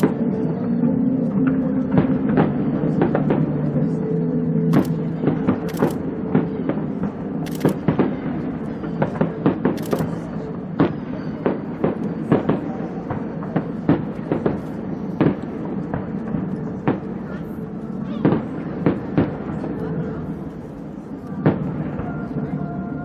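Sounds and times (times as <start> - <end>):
fireworks bangs and cracks: 1.7 - 4.0, 4.7 - 20.3, 21.4 - 22.6.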